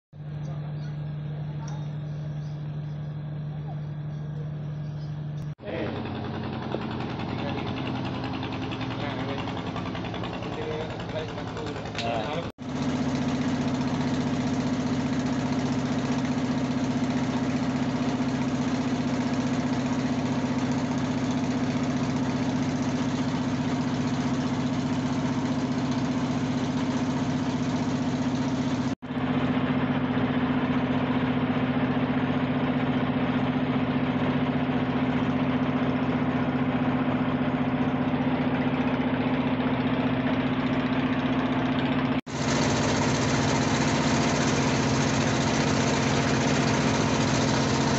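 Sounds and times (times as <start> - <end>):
boat engine droning: 0.2 - 47.9.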